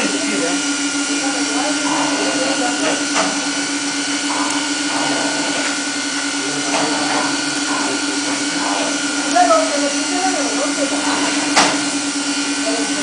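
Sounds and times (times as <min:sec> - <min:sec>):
electric blower humming: 0:00.0 - 0:13.0.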